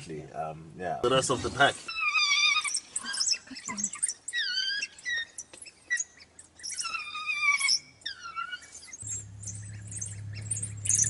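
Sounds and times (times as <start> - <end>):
wild dogs squealing and twittering: 1.2 - 11.0.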